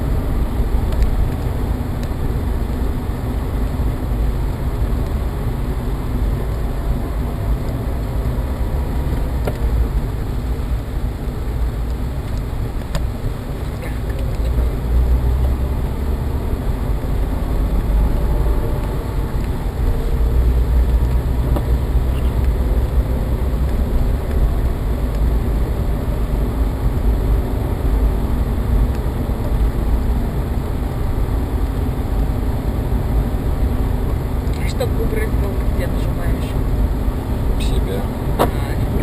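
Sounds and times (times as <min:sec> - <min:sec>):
car engine rumble: 0:00.0 - 0:39.0.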